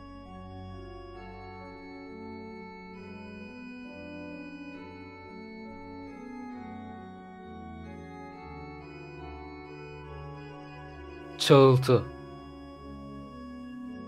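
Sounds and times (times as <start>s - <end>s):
slow organ music: 0.0s - 14.0s.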